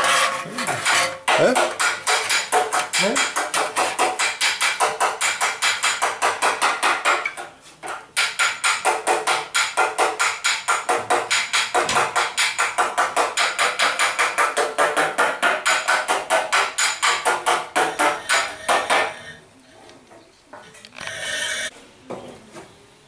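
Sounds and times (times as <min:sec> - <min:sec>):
hammer striking sheet metal: 0:00.0 - 0:19.2.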